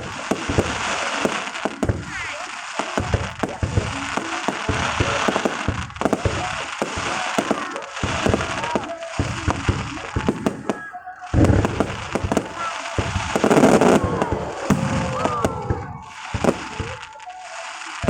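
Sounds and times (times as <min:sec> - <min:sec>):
fireworks bangs and crackling: 0:00.0 - 0:18.0
fireworks booms: 0:00.0 - 0:18.0.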